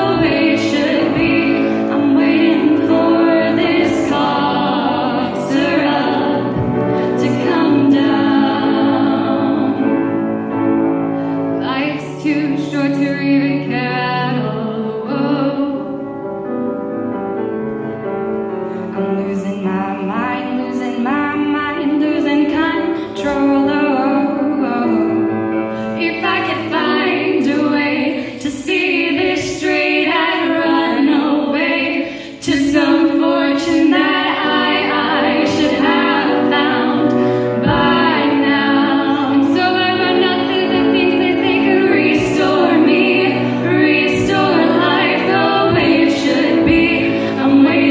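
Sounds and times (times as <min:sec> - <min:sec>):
voices singing in harmony: 0:00.0 - 0:16.2, 0:19.0 - 0:47.9.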